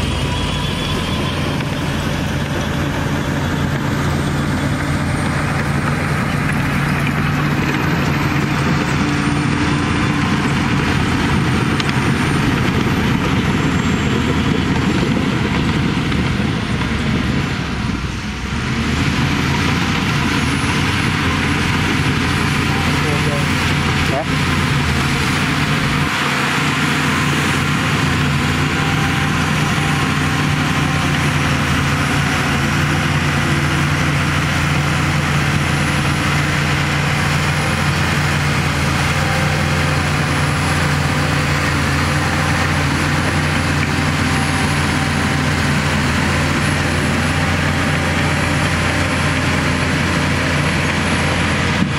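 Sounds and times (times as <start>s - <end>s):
bulldozer diesel engine drone: 0.0s - 51.9s.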